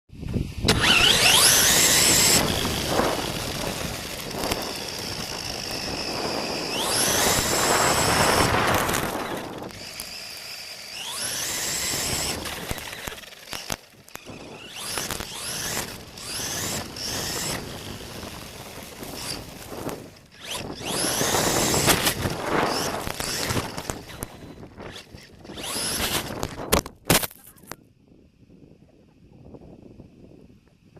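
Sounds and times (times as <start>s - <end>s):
toy car electric motor whining: 0.3s - 27.0s.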